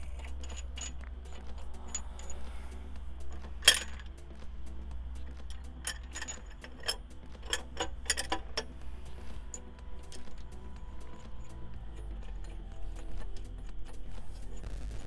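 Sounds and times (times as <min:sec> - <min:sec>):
metal tools clinking on metal: 0:00.0 - 0:04.4, 0:05.2 - 0:08.8, 0:09.4 - 0:14.1
faint music: 0:00.0 - 0:15.0
low hum: 0:00.0 - 0:15.0.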